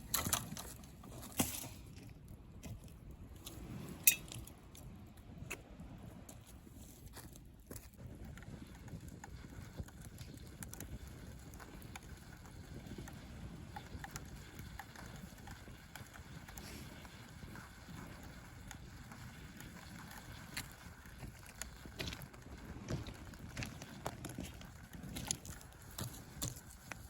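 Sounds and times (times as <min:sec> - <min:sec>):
campfire crackling and popping: 0:00.0 - 0:27.0
wind and surf rumble: 0:01.8 - 0:26.8.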